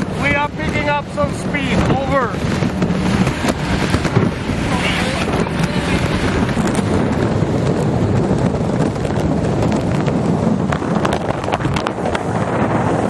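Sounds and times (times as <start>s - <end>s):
motorboat engine rumble: 0.0s - 13.0s
wind buffeting microphone: 0.0s - 13.0s.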